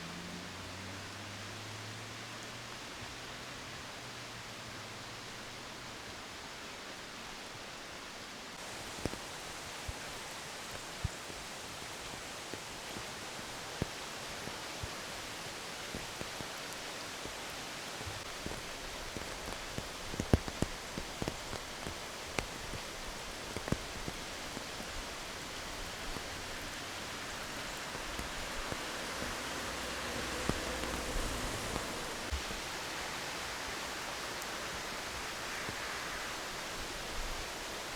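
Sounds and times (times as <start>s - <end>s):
rain falling steadily: 0.0s - 37.9s
raindrops ticking close by: 0.0s - 37.9s.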